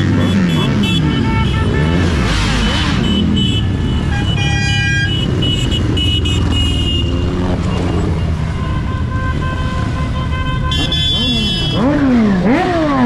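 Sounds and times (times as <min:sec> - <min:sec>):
horn toot: 0:00.0 - 0:12.6
motorcycles passing: 0:00.0 - 0:13.0.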